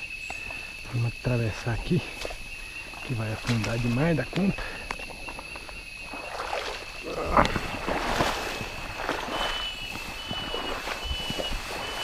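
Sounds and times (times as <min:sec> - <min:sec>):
footsteps splashing in shallow water: 0:01.8 - 0:12.0.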